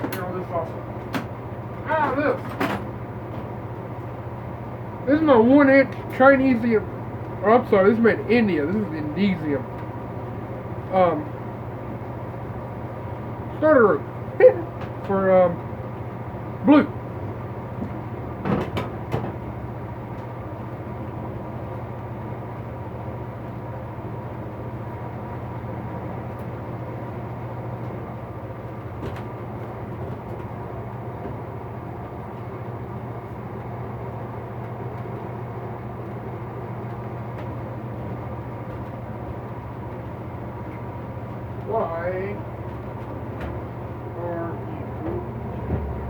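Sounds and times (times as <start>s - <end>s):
electric fan humming: 0.0s - 46.0s.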